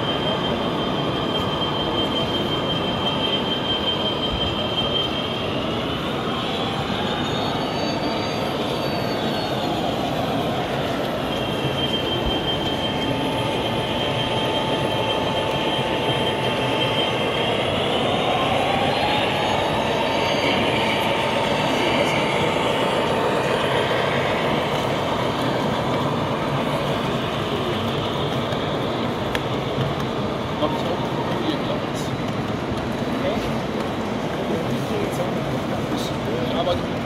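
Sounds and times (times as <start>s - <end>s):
thin high whining tones: 0.0s - 29.7s.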